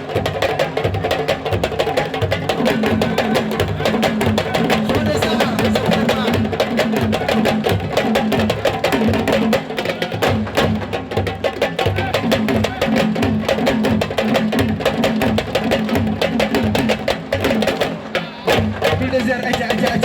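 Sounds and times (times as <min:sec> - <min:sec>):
fast percussion music: 0:00.0 - 0:20.0.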